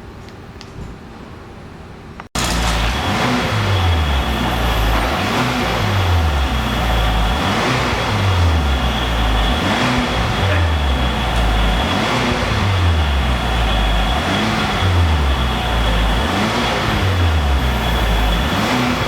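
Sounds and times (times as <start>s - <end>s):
car engine revving: 2.4s - 19.0s.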